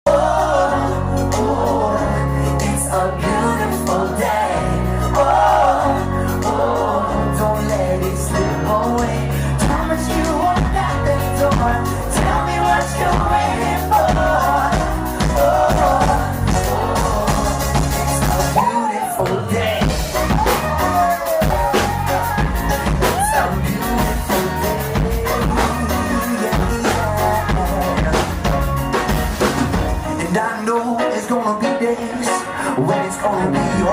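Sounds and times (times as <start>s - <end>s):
background pop music with singing: 0.0s - 33.9s.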